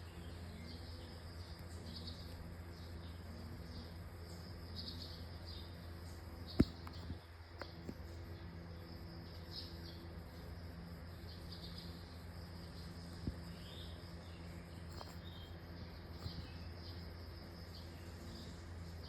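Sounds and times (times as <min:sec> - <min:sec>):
faint chirps: 0:00.0 - 0:19.0
low electrical hum: 0:00.0 - 0:19.0.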